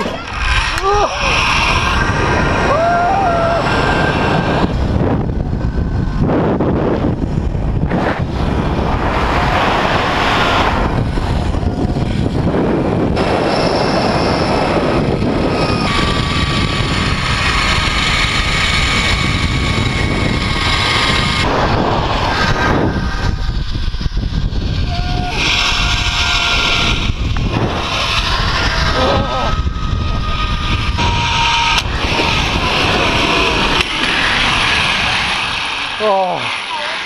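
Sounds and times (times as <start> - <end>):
pulley wheels whining on cable: 0.0 - 37.0
wind rushing over microphone: 0.0 - 37.0.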